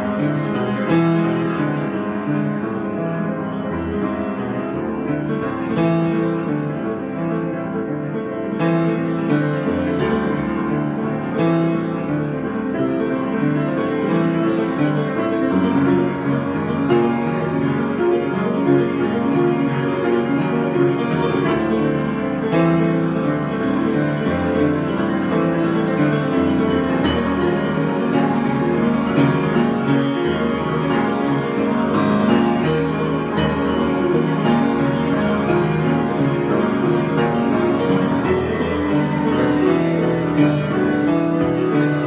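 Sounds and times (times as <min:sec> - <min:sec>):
solo piano chords: 0:00.0 - 0:42.0.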